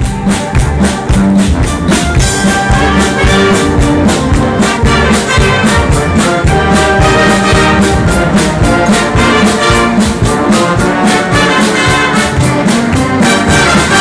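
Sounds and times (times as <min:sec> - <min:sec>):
brass band playing: 0:00.0 - 0:14.0
steady drum beat: 0:00.0 - 0:14.0.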